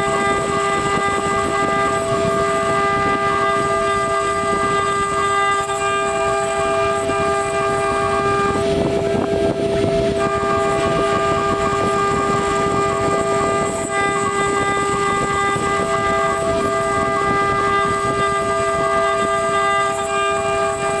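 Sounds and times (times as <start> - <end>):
router spindle whine: 0.0 - 21.0.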